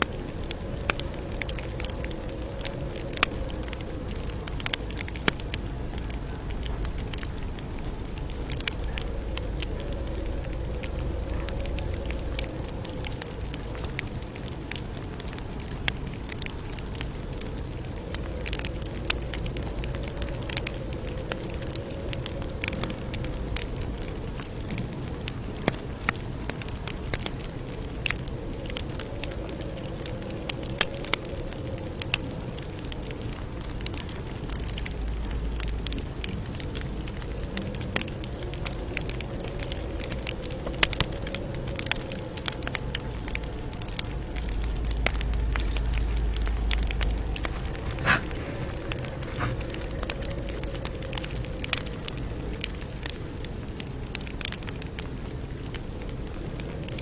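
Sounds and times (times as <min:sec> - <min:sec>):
campfire crackling and popping: 0:00.0 - 0:57.0
low rush of flame: 0:00.0 - 0:57.0.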